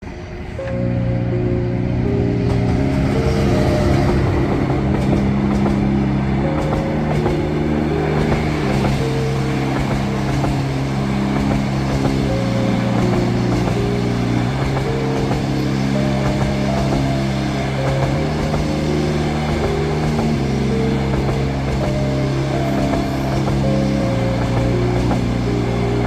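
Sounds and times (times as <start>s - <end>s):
slow ambient music: 0.0s - 26.0s
train wheels rumbling on rails: 0.0s - 26.0s.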